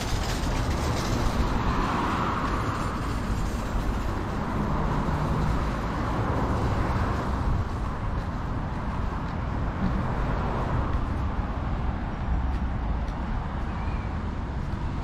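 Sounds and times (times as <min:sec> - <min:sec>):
city road traffic: 0:00.0 - 0:15.0
vehicle passing: 0:00.0 - 0:15.0.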